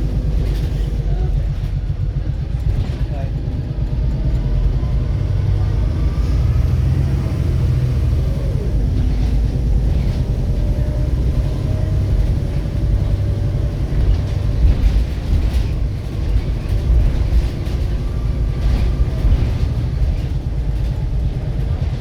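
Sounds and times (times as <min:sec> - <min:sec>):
bus diesel engine rumbling: 0:00.0 - 0:22.0.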